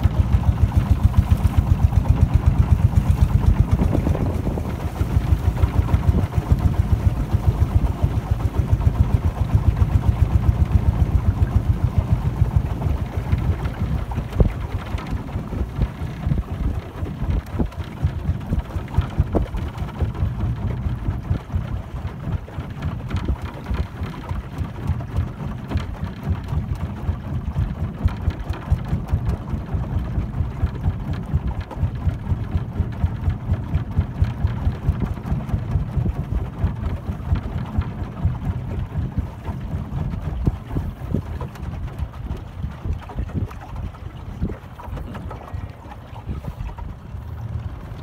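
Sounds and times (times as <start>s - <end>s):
boat engine rumble: 0.0s - 48.0s
wind buffeting microphone: 0.0s - 48.0s.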